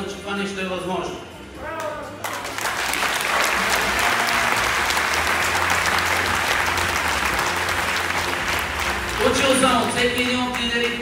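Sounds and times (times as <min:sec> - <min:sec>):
audience applauding: 0:01.8 - 0:11.0.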